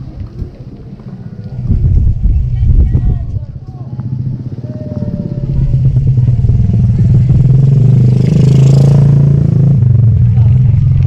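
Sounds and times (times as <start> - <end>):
motorcycle engine running: 1.1 - 11.0.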